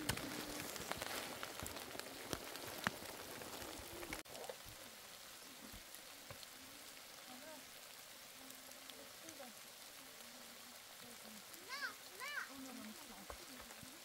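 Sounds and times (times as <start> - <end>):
rain falling: 0.0 - 14.0
raindrops ticking close by: 0.0 - 14.0.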